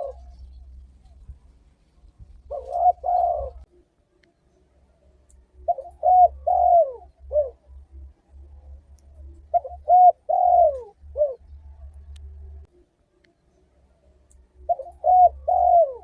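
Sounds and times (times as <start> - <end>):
dove cooing: 0.0 - 1.4, 2.0 - 4.0, 4.8 - 12.9, 13.5 - 16.0.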